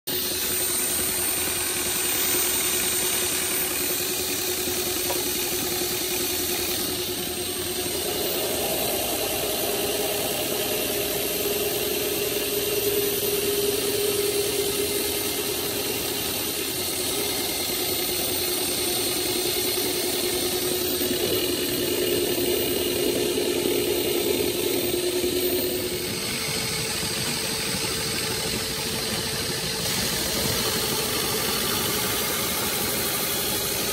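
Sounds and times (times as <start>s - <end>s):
drum sander running: 0.1s - 33.9s.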